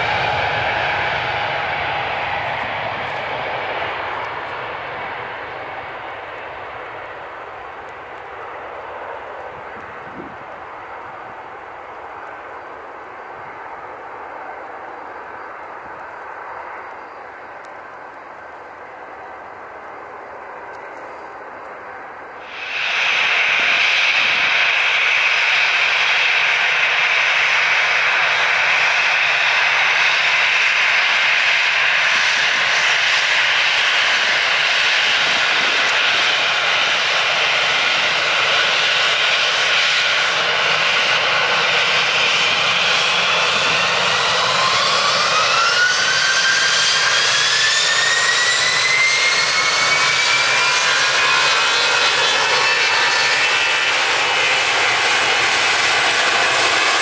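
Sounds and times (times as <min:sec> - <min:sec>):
jet engine whine rising in pitch: 0:00.0 - 0:57.0
jet engines running: 0:00.0 - 0:57.0.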